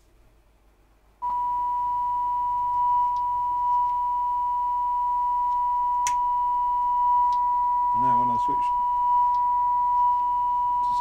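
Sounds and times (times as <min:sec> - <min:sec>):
low mains hum: 0:00.0 - 0:11.0
steady pure test tone: 0:01.2 - 0:11.0.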